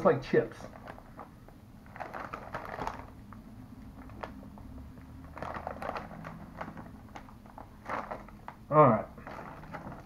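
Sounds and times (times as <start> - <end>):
chip bag crinkling: 0.5 - 10.0.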